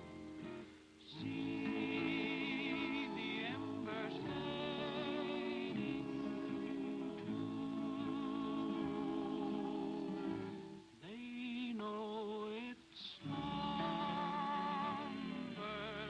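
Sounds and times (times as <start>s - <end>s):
single wavering voice singing: 1.0s - 16.0s
vocal group singing in harmony: 1.1s - 11.1s, 11.8s - 16.0s.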